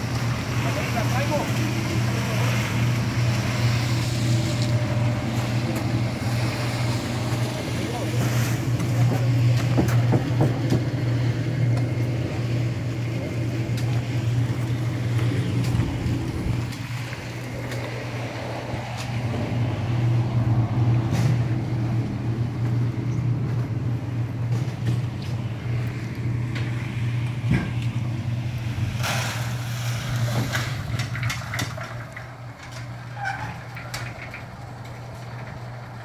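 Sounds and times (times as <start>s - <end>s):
concrete mixer motor drone: 0.0s - 36.0s.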